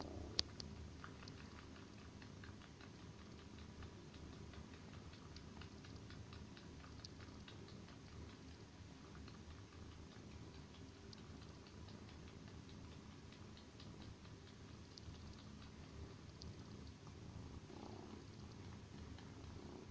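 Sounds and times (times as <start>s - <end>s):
kitten sucking rhythmic clicks: 0.0s - 19.9s.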